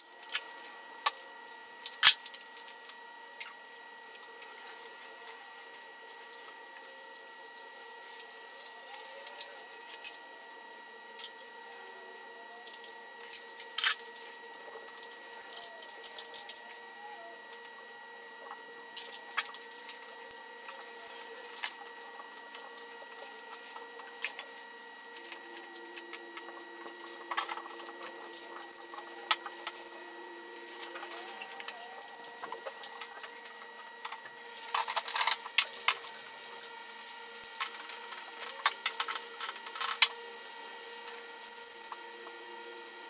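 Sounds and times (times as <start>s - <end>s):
steady high hum: 0.0s - 43.0s.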